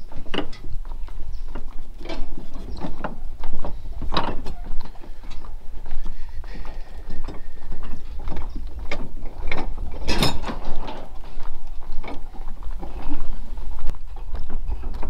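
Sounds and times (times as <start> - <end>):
footsteps on wooden dock: 0.0 - 15.0
steady low rumble: 0.0 - 15.0.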